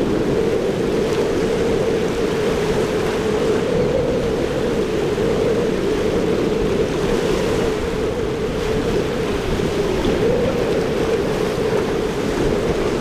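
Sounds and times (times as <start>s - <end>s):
outboard engines droning: 0.0s - 13.0s
rush of waves and spray: 0.0s - 13.0s
wind on microphone: 0.0s - 13.0s.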